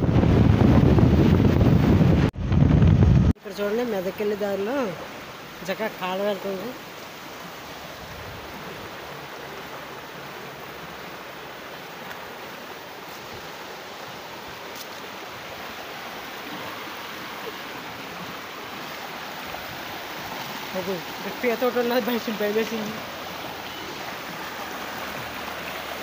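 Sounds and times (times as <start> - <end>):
water rushing over boulders: 0.0 - 26.0.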